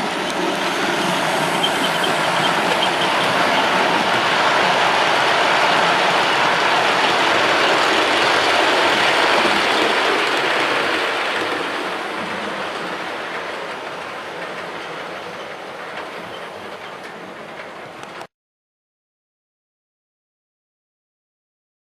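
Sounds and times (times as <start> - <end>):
model train wheels rattling: 0.0 - 18.3.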